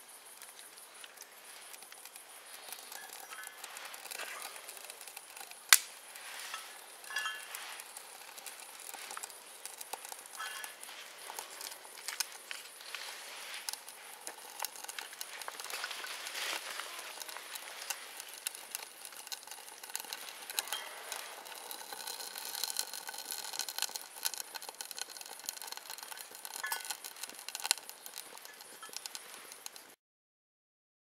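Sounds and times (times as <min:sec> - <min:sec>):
fire crackling and snapping: 0:00.0 - 0:30.0
stove hissing: 0:00.0 - 0:30.0.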